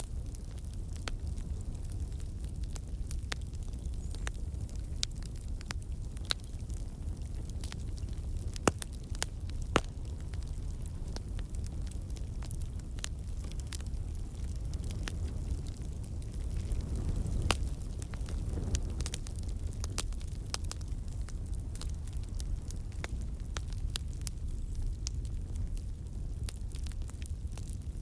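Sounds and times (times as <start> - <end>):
campfire rumble: 0.0 - 28.0
fire crackles and pops: 0.0 - 28.0.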